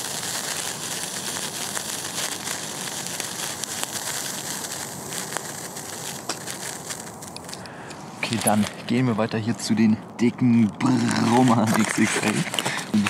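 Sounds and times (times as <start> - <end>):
sparkler fizzing and crackling: 0.0 - 13.0.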